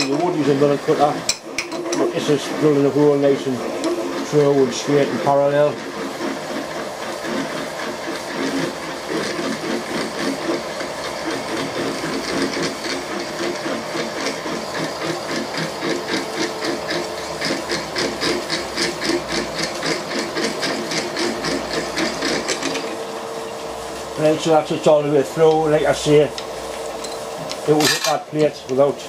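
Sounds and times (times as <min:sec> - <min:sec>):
milling machine drilling metal: 0:00.0 - 0:29.0.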